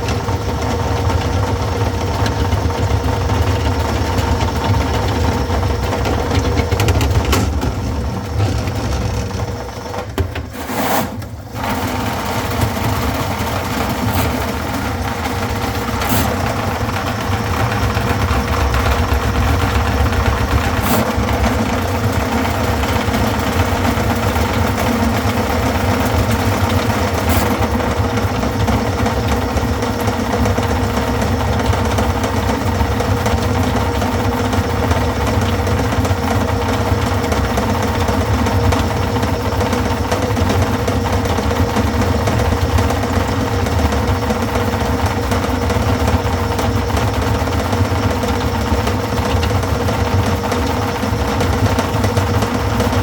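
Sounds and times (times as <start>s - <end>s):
drain-cleaning machine humming: 0.0s - 53.0s.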